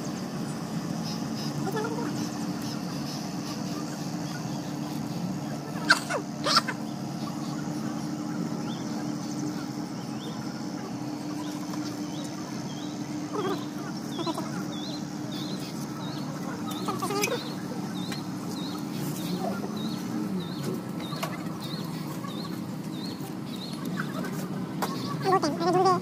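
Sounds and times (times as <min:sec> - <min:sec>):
small bird chirping: 0:00.0 - 0:25.9
steady low hum: 0:00.0 - 0:26.0.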